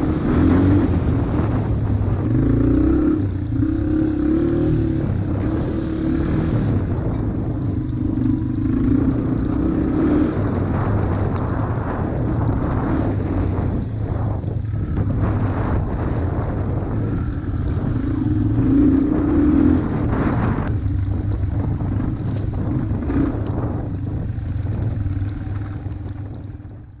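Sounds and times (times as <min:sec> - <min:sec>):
motorcycle engine running at low speed: 0:00.0 - 0:27.0.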